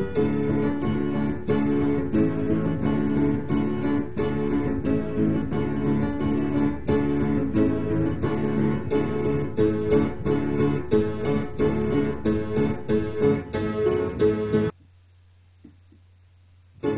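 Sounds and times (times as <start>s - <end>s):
instrumental background music: 0.0s - 14.7s.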